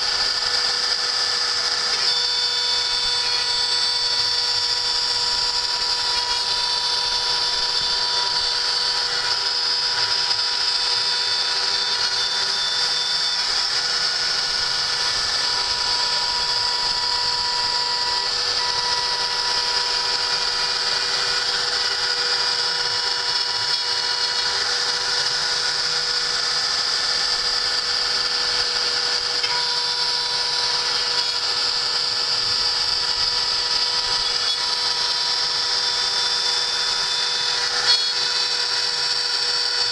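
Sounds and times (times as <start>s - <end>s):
milling machine spindle whine: 0.0s - 39.9s.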